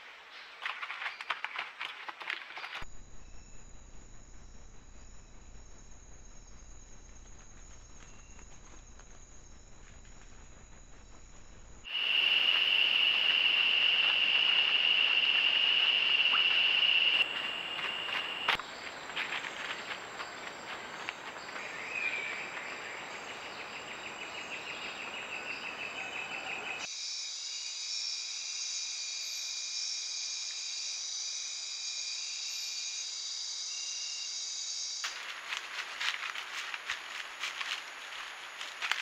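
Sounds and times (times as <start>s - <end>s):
insect chorus: 0.0s - 39.0s
crickets chirping: 0.6s - 39.0s.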